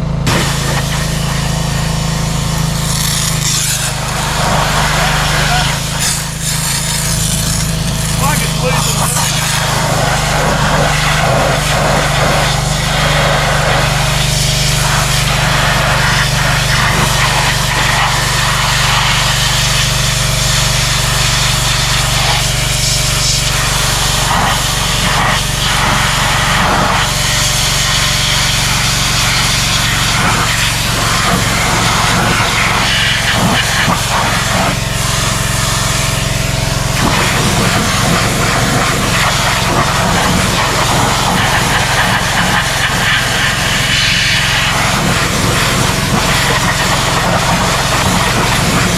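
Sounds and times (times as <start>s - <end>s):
pressure washer engine running: 0.0s - 48.9s
water spray hissing: 0.3s - 48.9s.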